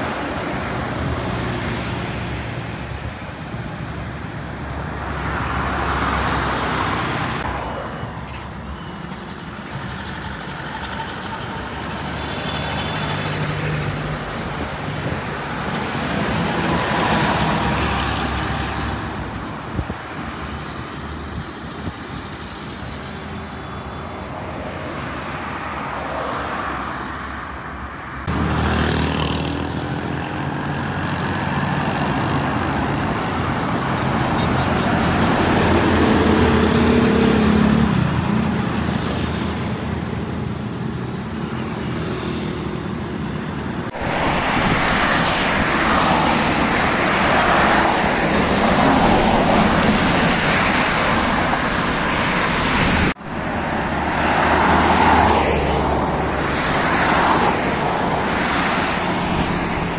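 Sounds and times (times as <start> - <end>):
highway traffic passing: 0.0 - 59.9.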